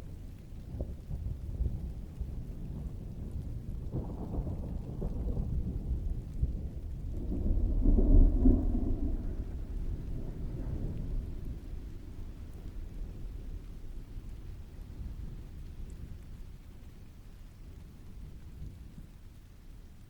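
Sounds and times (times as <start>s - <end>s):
steady rain: 0.0s - 20.0s
distant thunder rolling: 0.8s - 19.4s.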